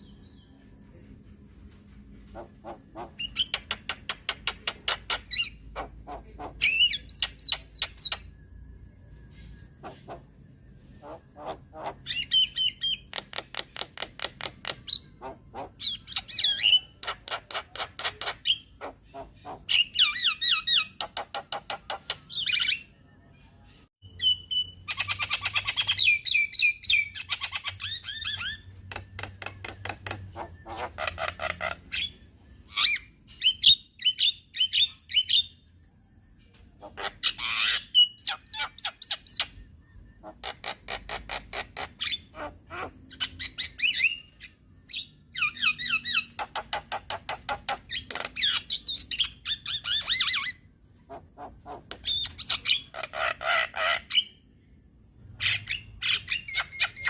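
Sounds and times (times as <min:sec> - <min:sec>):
myna bird calling: 0:02.2 - 0:08.4, 0:09.3 - 0:35.6, 0:36.6 - 0:54.4.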